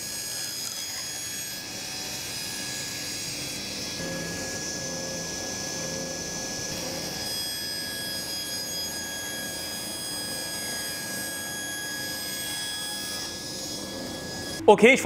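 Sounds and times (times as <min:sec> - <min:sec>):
table saw whining: 0:00.0 - 0:14.7.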